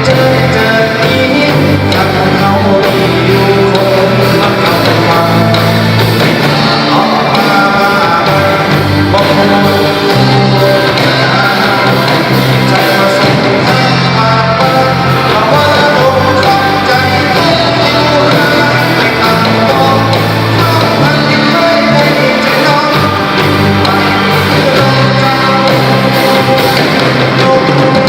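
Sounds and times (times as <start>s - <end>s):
live rock band playing: 0.0s - 28.0s
person singing: 0.0s - 28.0s.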